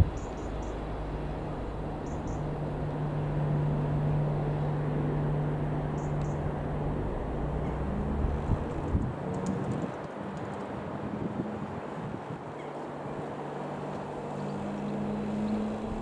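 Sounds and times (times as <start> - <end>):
propeller plane engine droning: 0.0 - 11.0, 12.8 - 16.0.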